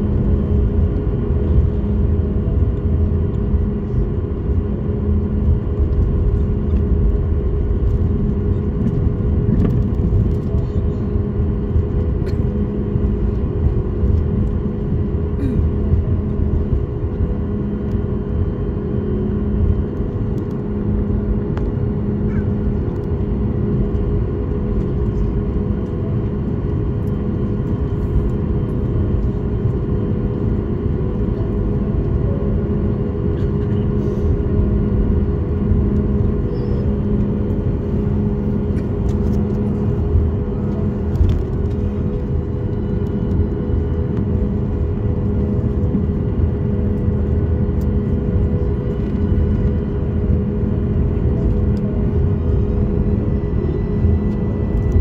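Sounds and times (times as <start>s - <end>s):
airplane cabin engine drone: 0.0s - 55.0s
low hum: 0.0s - 55.0s.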